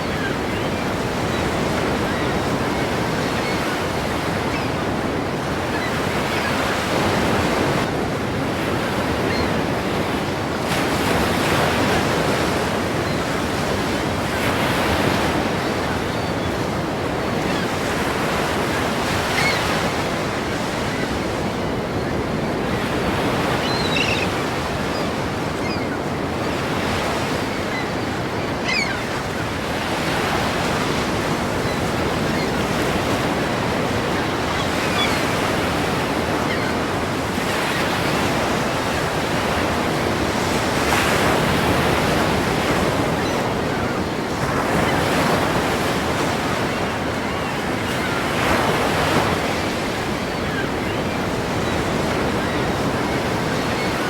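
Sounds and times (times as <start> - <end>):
wind: 0.0 - 54.0.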